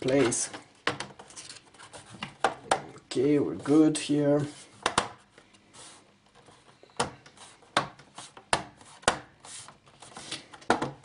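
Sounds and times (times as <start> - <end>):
plastic rubbing and handling: 0.0 - 11.0.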